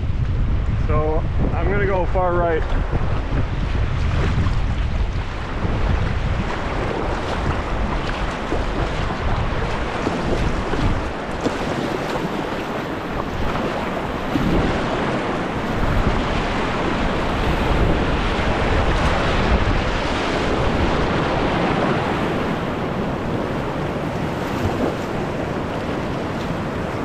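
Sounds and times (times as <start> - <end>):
whitewater rushing: 1.5 - 27.0
water splashing at boat bow: 1.8 - 27.0.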